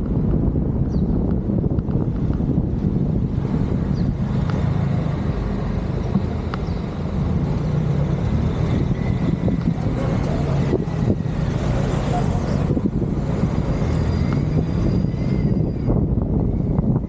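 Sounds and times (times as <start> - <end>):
road rumble: 0.0 - 17.0
vehicle engine: 0.0 - 17.0.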